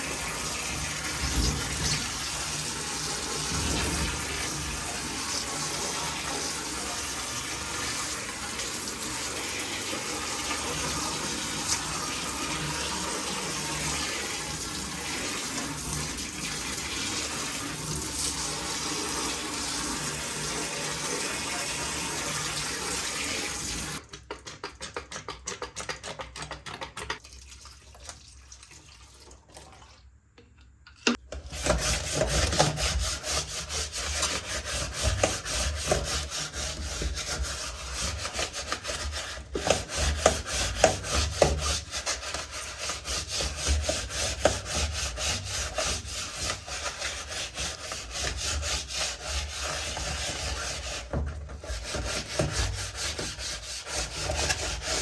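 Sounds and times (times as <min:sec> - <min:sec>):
keyboard being scrubbed: 0:00.0 - 0:24.0, 0:31.5 - 0:55.0.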